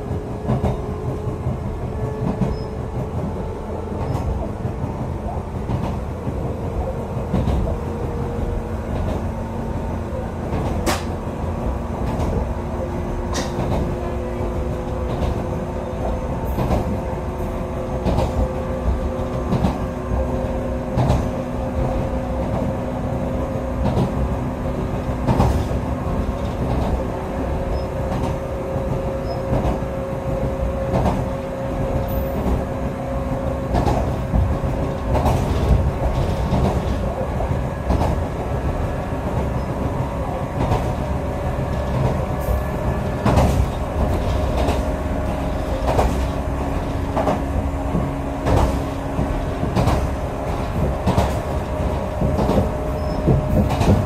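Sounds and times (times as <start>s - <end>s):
railcar rumble: 0.0s - 54.0s.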